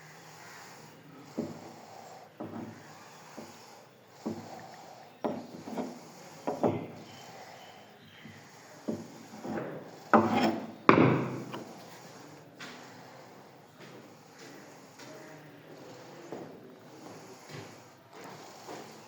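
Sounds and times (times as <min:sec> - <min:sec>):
scraping and rubbing on wood: 0:00.4 - 0:19.0.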